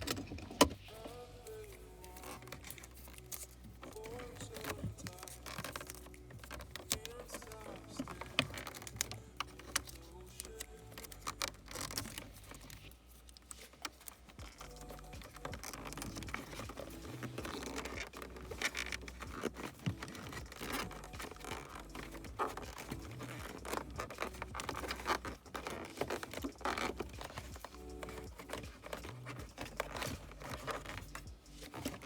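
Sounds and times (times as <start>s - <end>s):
clicks and rustling of handling: 0.0s - 32.0s
tearing: 0.0s - 32.0s.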